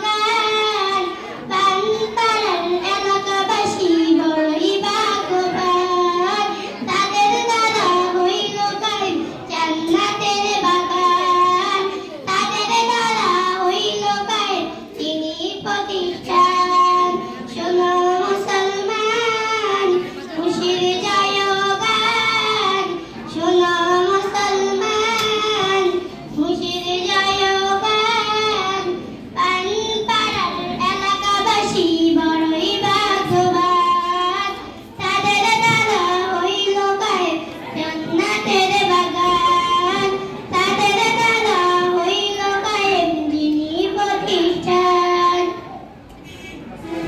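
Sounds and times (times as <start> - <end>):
girl singing through loudspeaker: 0.0 - 47.0.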